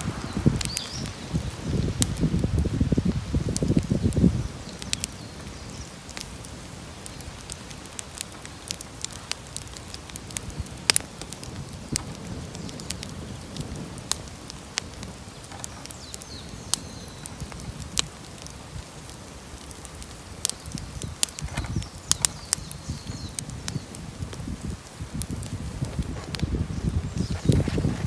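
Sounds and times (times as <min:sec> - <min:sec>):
bonfire crackling: 0:00.0 - 0:28.0
low rushing fire: 0:00.0 - 0:28.0.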